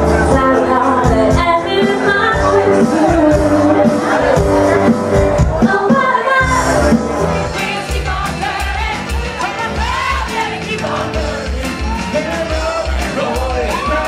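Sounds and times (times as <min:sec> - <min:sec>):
band music with singing: 0:00.0 - 0:14.0
steady drum beat: 0:00.0 - 0:14.0.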